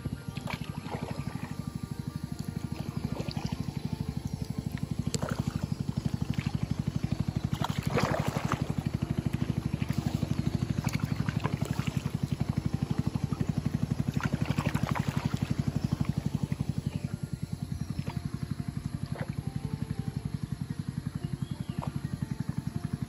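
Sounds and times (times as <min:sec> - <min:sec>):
motorboat engine running: 0:00.0 - 0:23.0
water swishing: 0:00.3 - 0:20.3.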